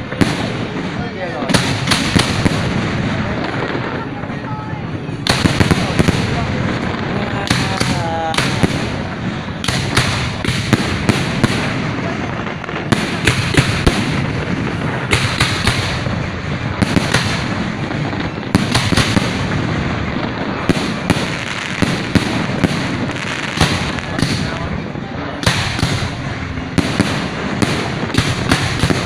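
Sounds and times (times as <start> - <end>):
fireworks bangs: 0.0 - 29.0
fireworks crackle: 0.0 - 29.0.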